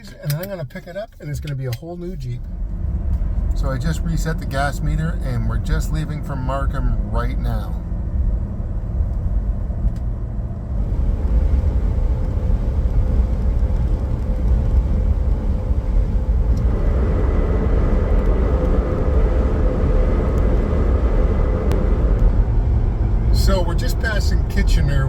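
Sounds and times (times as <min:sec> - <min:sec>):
steady whine: 0:00.0 - 0:25.0
tyre and drivetrain rumble: 0:00.0 - 0:25.0.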